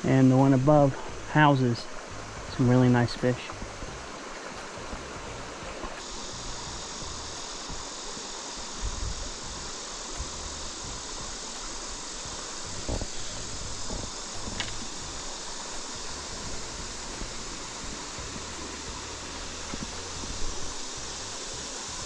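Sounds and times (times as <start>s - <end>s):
stream water flowing: 0.0s - 22.0s
soft low thumps: 1.9s - 8.0s, 8.8s - 22.0s.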